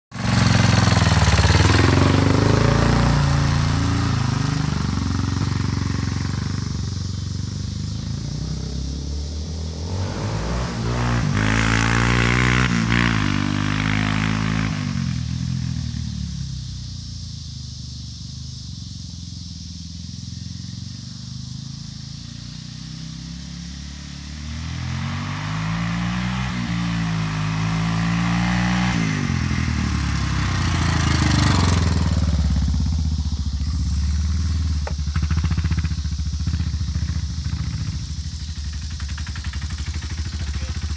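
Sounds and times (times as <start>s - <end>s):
quad engine revving: 0.1s - 16.8s, 20.1s - 40.9s.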